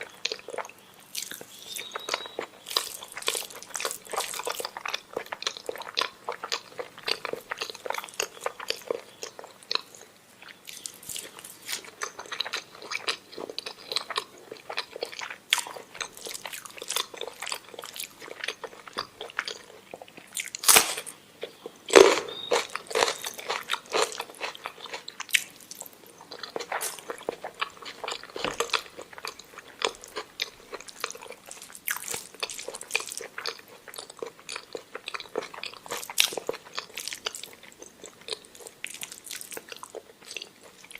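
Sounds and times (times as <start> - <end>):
person chewing with wet mouth sounds: 0.0 - 20.8, 21.4 - 40.9.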